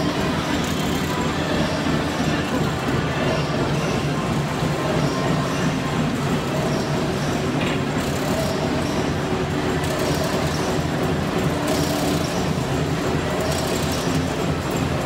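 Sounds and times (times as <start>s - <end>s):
wire mesh weaving machine running: 0.0s - 15.0s.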